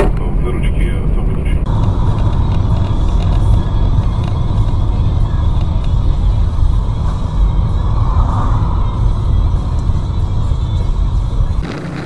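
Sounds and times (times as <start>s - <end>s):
car engine and tyres rumbling: 0.0s - 12.0s
music playing: 0.0s - 12.0s.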